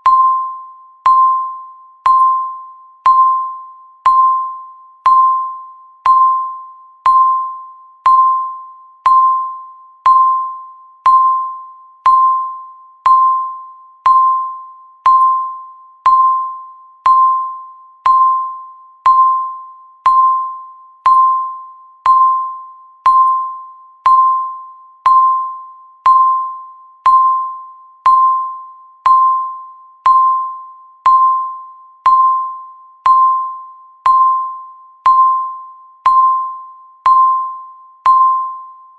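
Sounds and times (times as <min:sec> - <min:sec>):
timer beeping: 0:00.0 - 0:38.9.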